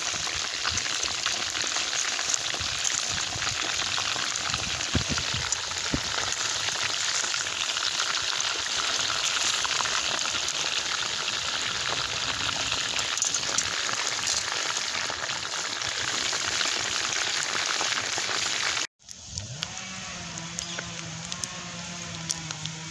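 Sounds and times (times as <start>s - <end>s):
oil sizzling while deep-frying: 0.0s - 18.9s.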